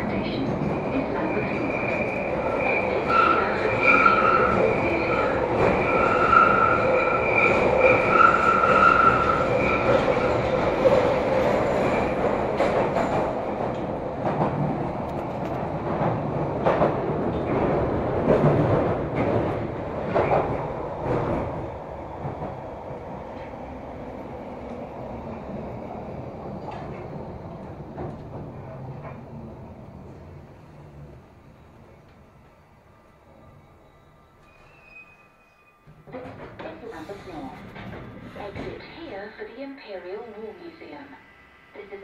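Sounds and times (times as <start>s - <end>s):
train rumbling inside carriage: 0.0s - 42.0s.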